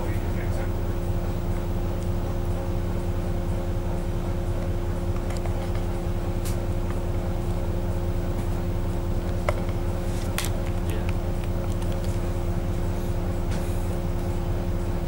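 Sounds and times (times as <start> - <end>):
bus engine hum: 0.0 - 15.0
constant whine: 0.0 - 15.0.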